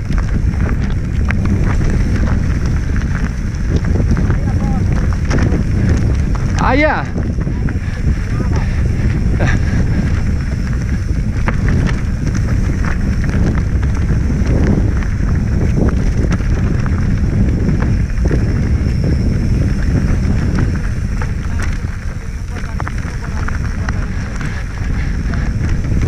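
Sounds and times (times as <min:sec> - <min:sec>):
bike rattling over bumps: 0:00.0 - 0:26.0
bike tyre rumble: 0:00.0 - 0:26.0
wind buffeting microphone: 0:00.0 - 0:26.0.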